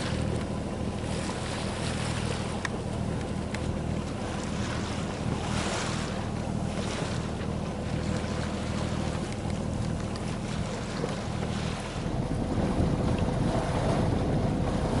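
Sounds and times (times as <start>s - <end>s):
sea water rushing past boat: 0.0s - 15.0s
steady low hum: 0.0s - 15.0s
wind buffeting microphone: 0.0s - 15.0s.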